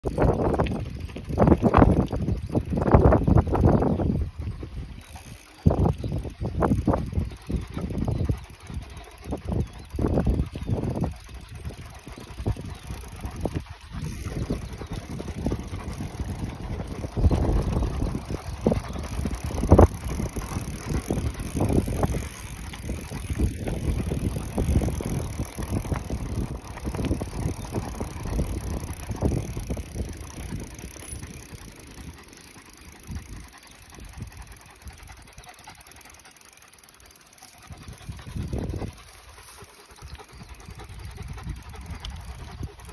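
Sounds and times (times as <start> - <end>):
wind buffeting microphone: 0.0 - 37.0, 37.6 - 42.9
crunching on dirt track: 0.0 - 42.9.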